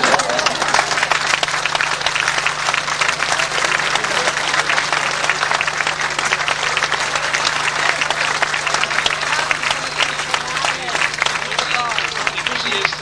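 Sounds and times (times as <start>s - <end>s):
audience applauding: 0.0s - 13.0s
constant low hum: 0.0s - 13.0s.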